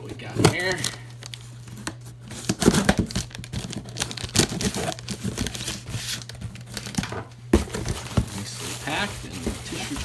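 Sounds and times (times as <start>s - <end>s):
paper crinkling and tearing: 0.4s - 7.1s, 7.8s - 10.0s.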